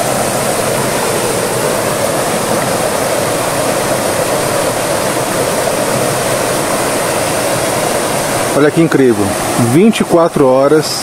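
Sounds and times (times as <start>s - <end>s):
water rushing over rapids: 0.0s - 11.0s.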